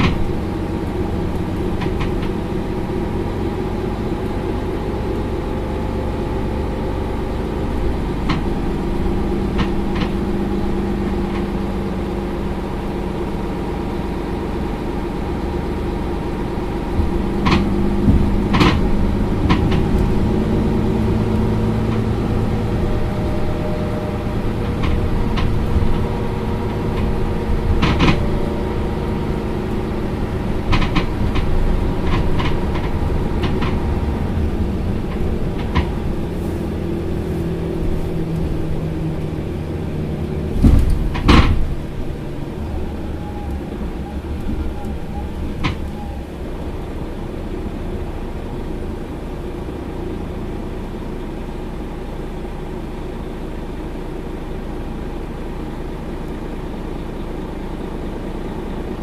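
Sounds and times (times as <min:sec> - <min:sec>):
bus diesel engine humming: 0:00.0 - 0:59.0.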